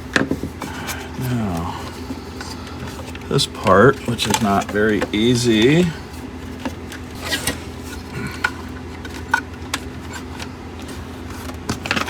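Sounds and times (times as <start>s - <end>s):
parts clicking and rubbing: 0.0s - 12.0s.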